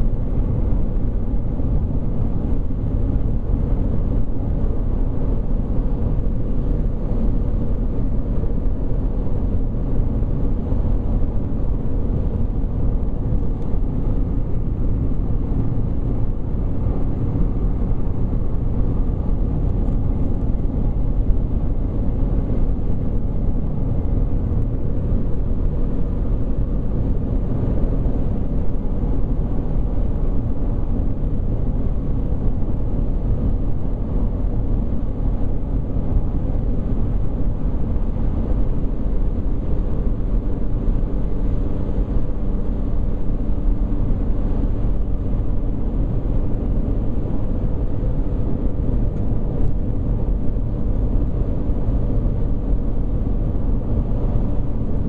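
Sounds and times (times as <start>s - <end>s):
car road noise from inside: 0.0s - 55.0s.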